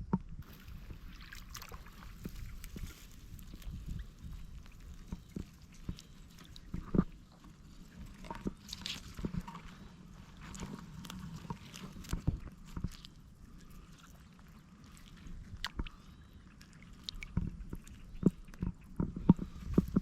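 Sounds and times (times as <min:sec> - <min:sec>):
wet squishes in mud: 0:00.4 - 0:20.0.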